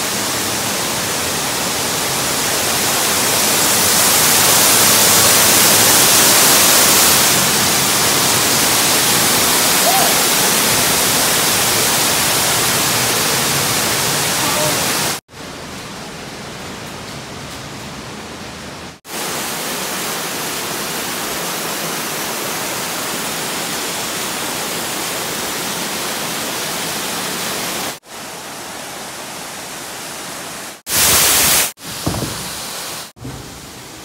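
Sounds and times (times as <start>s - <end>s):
waterfall rushing over rocks: 0.0s - 16.5s, 19.0s - 34.0s.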